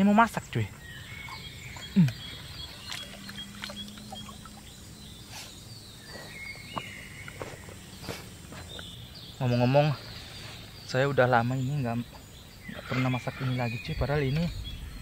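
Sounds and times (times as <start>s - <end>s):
birds chirping: 0.0s - 15.0s
insects chirping: 0.0s - 15.0s.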